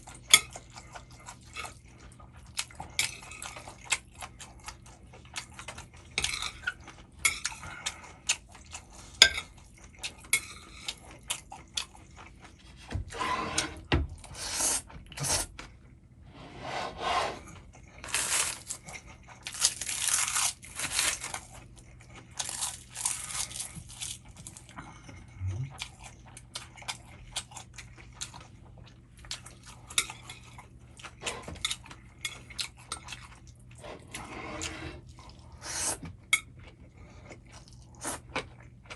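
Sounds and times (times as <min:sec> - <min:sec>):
slurping and chewing: 0:00.0 - 0:12.9, 0:17.5 - 0:38.9.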